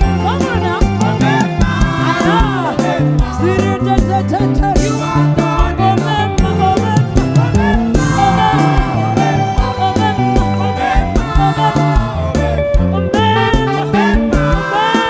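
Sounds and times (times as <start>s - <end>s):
bass line: 0.0s - 15.0s
drums steady beat: 0.0s - 15.0s
person singing: 0.0s - 15.0s.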